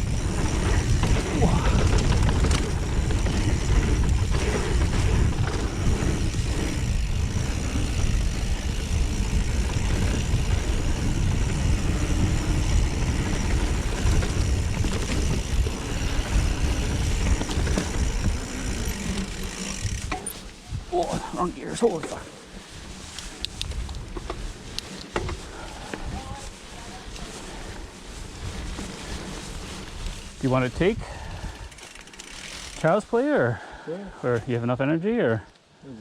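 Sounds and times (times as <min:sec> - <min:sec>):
wind rumble on microphone: 0:00.0 - 0:21.4, 0:22.6 - 0:31.7
bike rattling over ground: 0:00.0 - 0:33.1.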